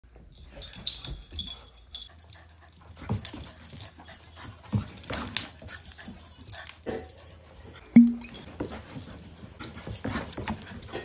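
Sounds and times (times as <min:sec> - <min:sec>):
dogs play-fighting vocalizing: 0:00.8 - 0:07.8, 0:08.4 - 0:11.0.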